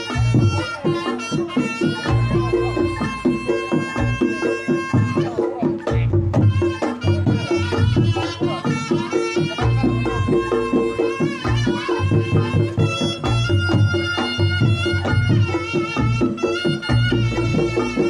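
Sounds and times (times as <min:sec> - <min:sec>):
hand drum strokes: 0:00.0 - 0:18.0
reed shawm melody: 0:00.0 - 0:18.0.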